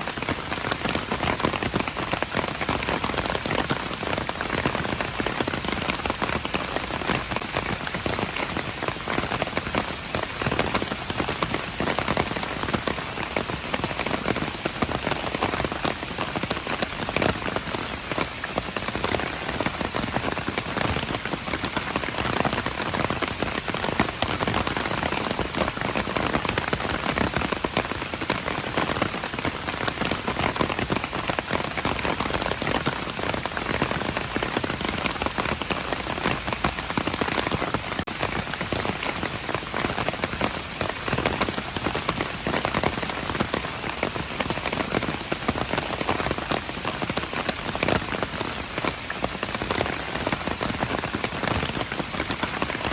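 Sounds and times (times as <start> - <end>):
rain pattering on hard surfaces: 0.0 - 52.9.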